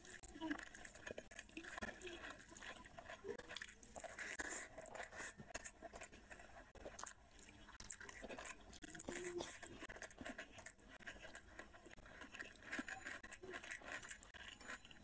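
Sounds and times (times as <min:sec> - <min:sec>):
person chewing and lip smacking: 0:00.0 - 0:15.0.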